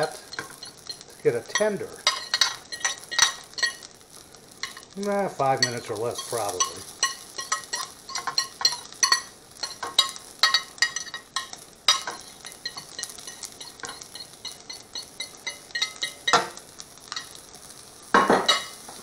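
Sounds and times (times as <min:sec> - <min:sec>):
utensil clinking on a plate: 0:00.0 - 0:03.9, 0:05.6 - 0:17.4
food sizzling in a pan: 0:00.0 - 0:19.0.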